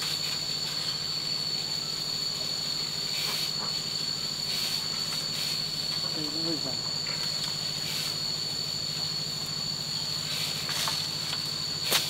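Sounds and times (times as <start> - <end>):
insects droning: 0.0 - 12.0
low mechanical hum: 0.0 - 12.0.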